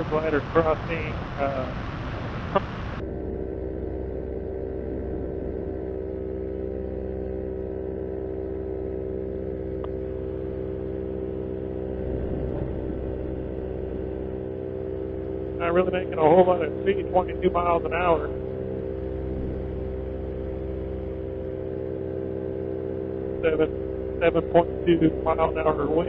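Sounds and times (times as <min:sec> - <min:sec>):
paraglider engine and propeller droning: 0:00.0 - 0:26.0.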